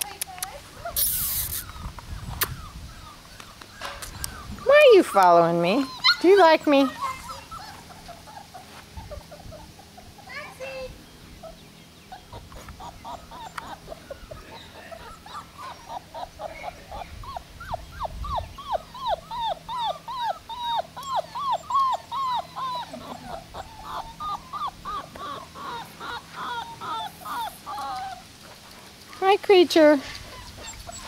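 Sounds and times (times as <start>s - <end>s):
puppies whimpering and yipping: 0.7s - 10.8s, 11.4s - 31.0s.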